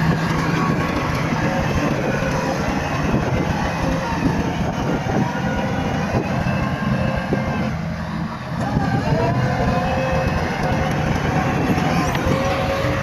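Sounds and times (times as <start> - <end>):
steel tracks clattering: 0.0 - 7.3, 9.6 - 13.0
bulldozer diesel engine running: 0.0 - 13.0.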